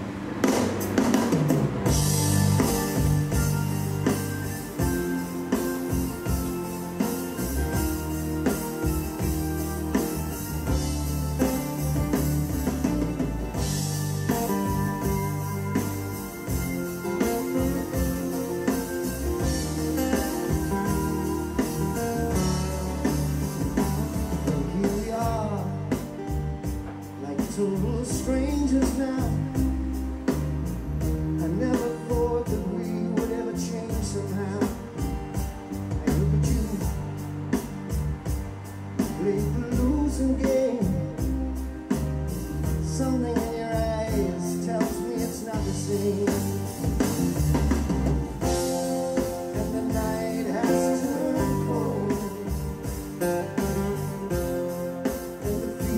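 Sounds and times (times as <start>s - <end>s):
rock song with singing: 0.0s - 55.9s.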